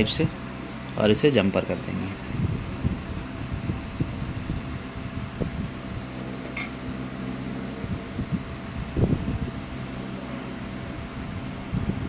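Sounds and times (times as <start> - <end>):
electric fan hum: 0.0 - 12.0.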